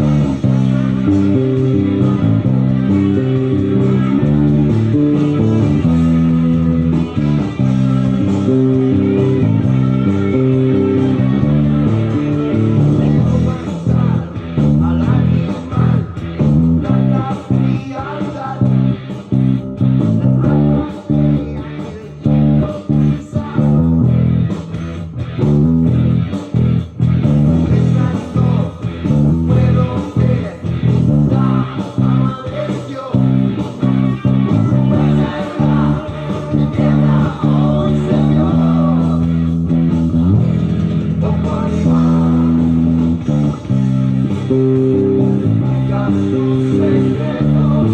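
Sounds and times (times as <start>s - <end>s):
electric bass guitar riff: 0.0s - 47.9s
guitar: 0.0s - 47.9s.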